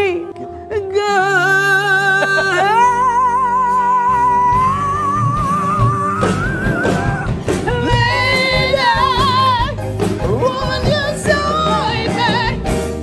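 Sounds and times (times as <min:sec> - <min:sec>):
rock band playing: 0:01.5 - 0:13.0.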